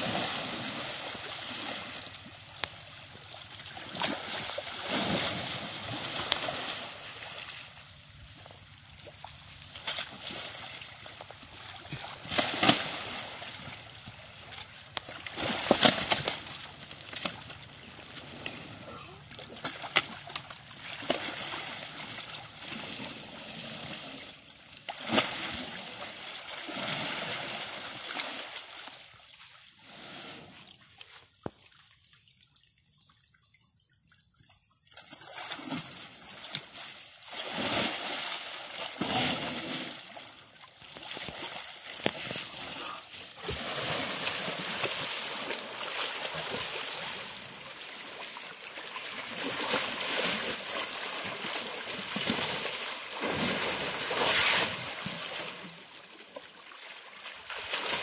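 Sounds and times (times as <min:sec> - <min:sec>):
elephant splashing in mud water: 0:00.0 - 0:08.2, 0:09.0 - 0:24.2, 0:24.9 - 0:29.0, 0:35.2 - 0:58.0.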